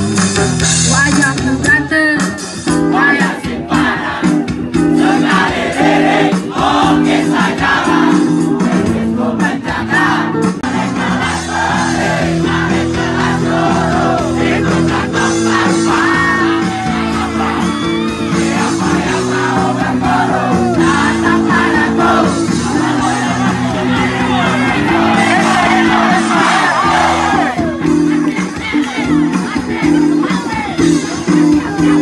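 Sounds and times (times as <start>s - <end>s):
crowd singing together: 2.7s - 32.0s
strummed guitar: 2.7s - 32.0s.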